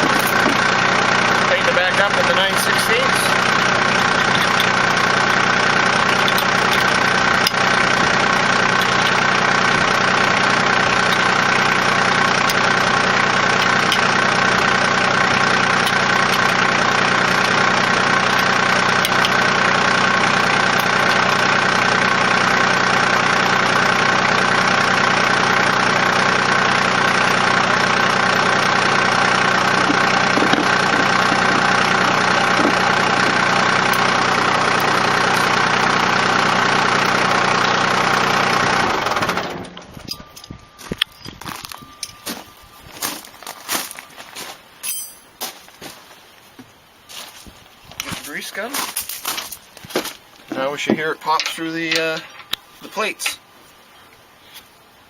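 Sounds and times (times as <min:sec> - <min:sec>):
tractor diesel engine idling: 0:00.0 - 0:45.5, 0:48.0 - 0:49.5, 0:50.1 - 0:55.0.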